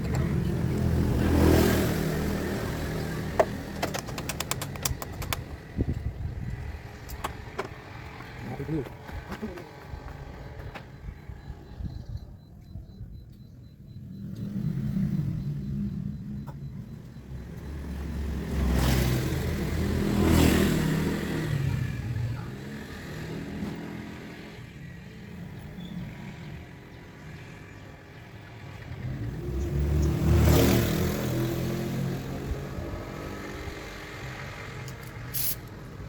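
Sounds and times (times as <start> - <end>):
vehicles driving past: 0.0 - 12.0, 13.2 - 36.0.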